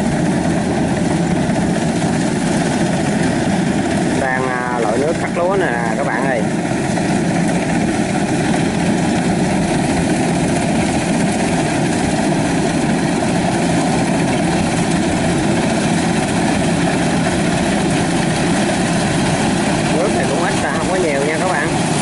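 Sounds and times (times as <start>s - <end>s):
combine harvester diesel engine running: 0.0s - 22.0s.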